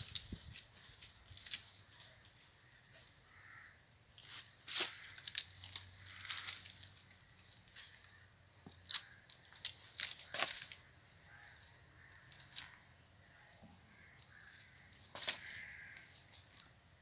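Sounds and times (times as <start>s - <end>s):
dry leaves crackling and rustling: 0.0s - 2.5s, 3.4s - 12.8s, 14.3s - 16.6s.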